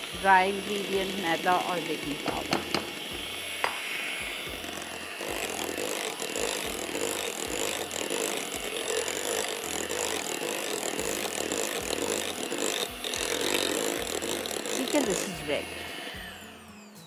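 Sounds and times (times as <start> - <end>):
electric hand mixer whirring: 0.0 - 17.0.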